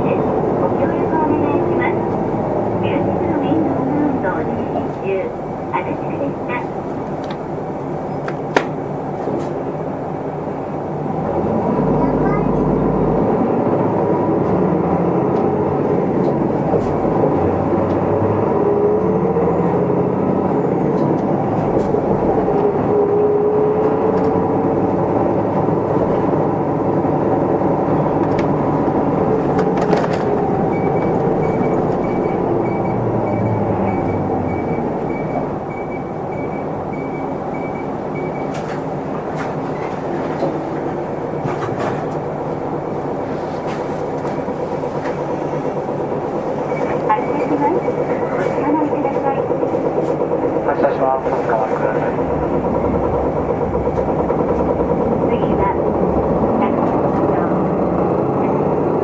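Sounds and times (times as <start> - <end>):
bus diesel engine running: 0.0 - 59.0
pitched drivetrain whine: 0.0 - 59.0.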